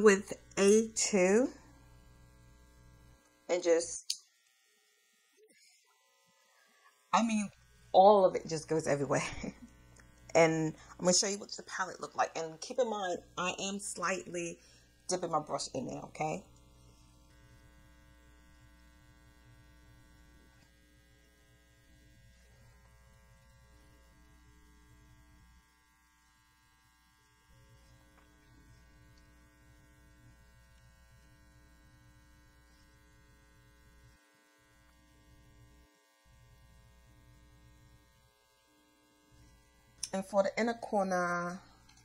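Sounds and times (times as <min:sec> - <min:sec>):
faint electrical hum: 0:00.0 - 0:42.0.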